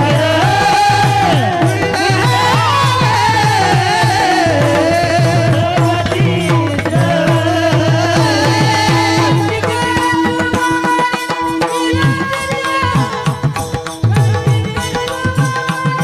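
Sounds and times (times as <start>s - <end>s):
harmonium drone: 0.0s - 16.0s
person singing devotional melody: 0.0s - 16.0s.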